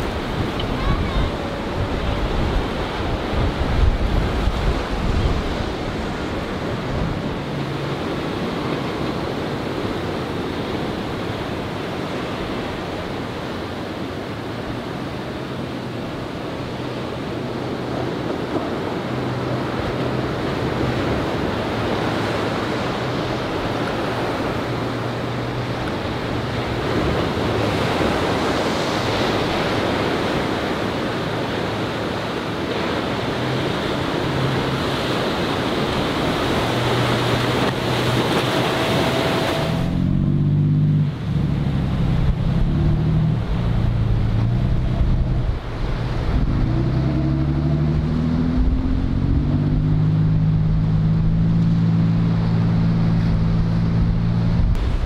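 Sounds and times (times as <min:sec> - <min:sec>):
wind noise: 0:00.0 - 0:14.9, 0:16.0 - 0:55.0
fishing boat engine: 0:00.0 - 0:55.0
motorboat engine: 0:00.0 - 0:55.0
surf: 0:00.0 - 0:55.0
waves breaking: 0:00.0 - 0:55.0.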